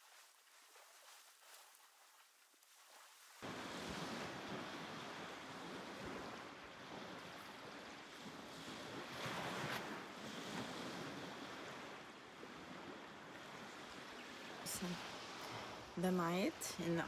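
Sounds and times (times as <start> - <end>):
sea surf washing on beach: 0.0 - 17.0
wind: 0.0 - 17.0.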